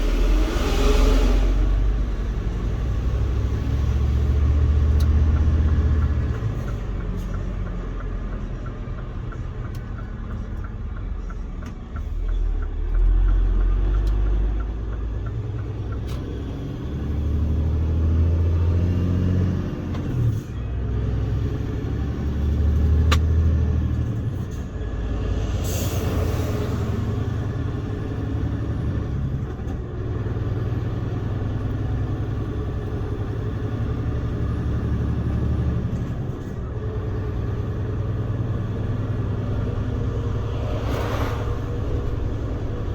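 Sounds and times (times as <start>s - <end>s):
truck engine rumbling: 0.0s - 42.9s.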